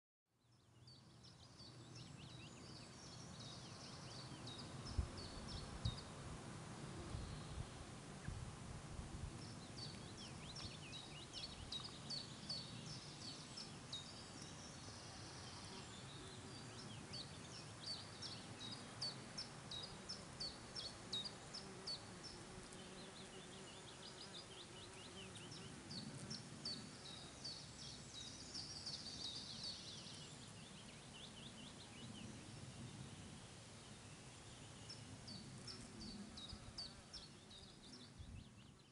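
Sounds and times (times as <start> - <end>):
faint birdsong: 0.3 - 6.2, 6.8 - 8.4, 9.3 - 38.9
outdoor background hiss: 0.4 - 38.9.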